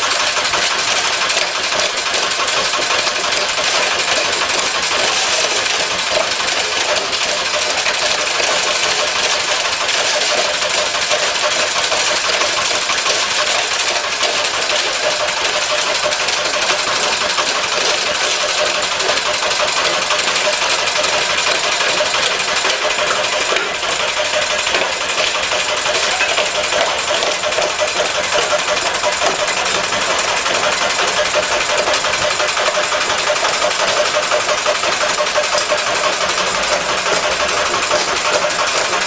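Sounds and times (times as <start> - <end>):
engine knocking steadily: 0.0 - 39.0
rock crusher: 0.0 - 39.0.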